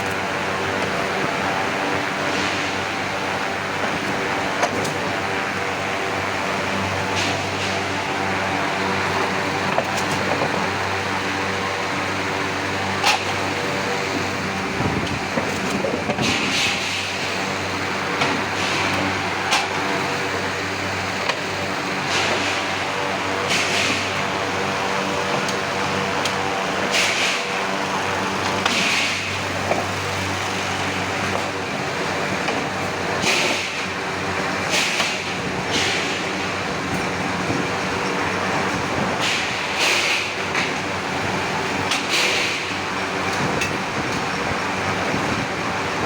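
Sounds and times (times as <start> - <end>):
machinery hum: 0.0 - 46.0.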